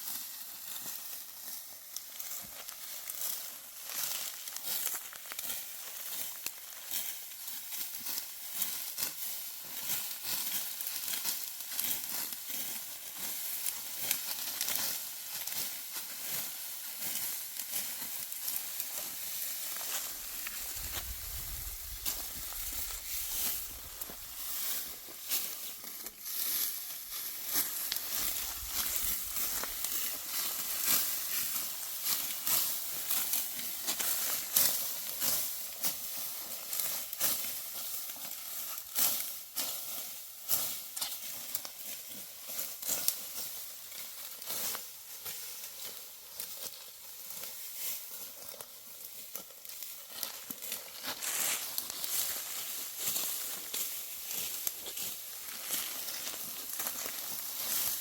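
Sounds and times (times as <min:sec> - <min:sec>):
sickle cutting dry wheat stalks: 0:00.0 - 0:58.0.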